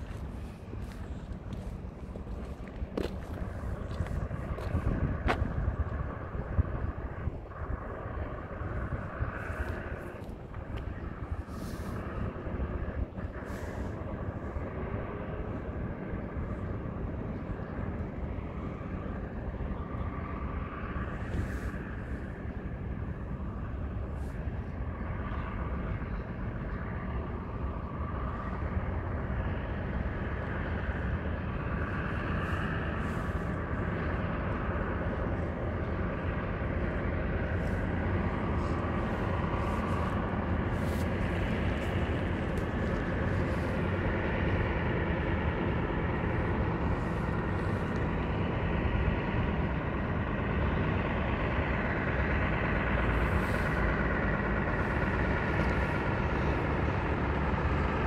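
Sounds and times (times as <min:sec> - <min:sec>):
truck diesel engine rumble: 0:00.0 - 0:58.0.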